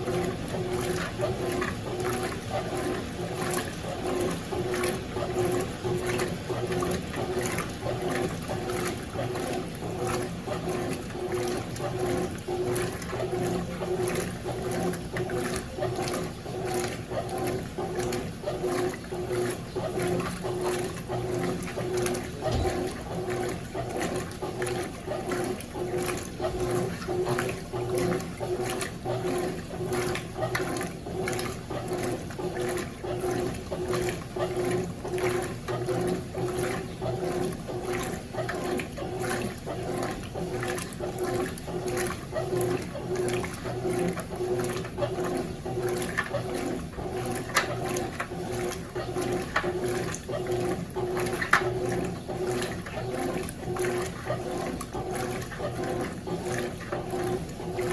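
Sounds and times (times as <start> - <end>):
washing machine motor hum: 0.0 - 57.9
water churning in washing machine: 0.0 - 57.9.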